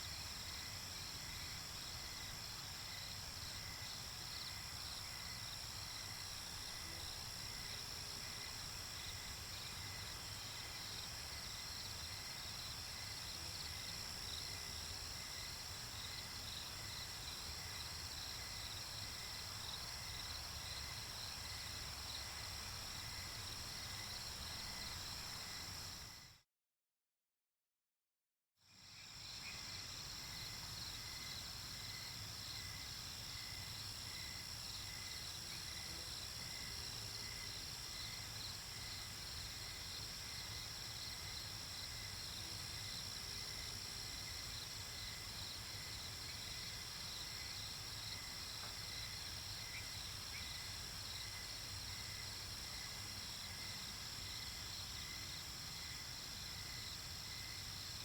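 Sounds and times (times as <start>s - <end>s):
crickets chirping: 0.0s - 26.4s, 28.7s - 58.0s.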